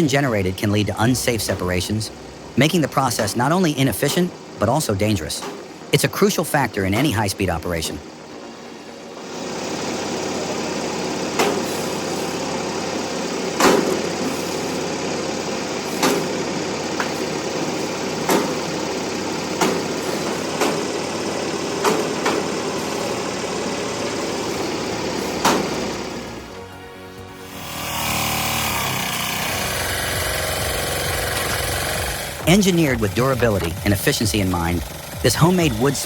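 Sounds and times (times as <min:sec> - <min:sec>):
engine-driven machine running: 0:00.0 - 0:36.0.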